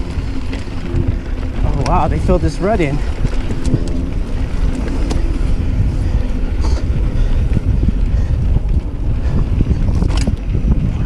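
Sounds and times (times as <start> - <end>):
bike clicks and rattles: 0.0 - 11.0
tyres rumbling on dirt: 0.0 - 11.0
wind rush on microphone: 0.0 - 11.0.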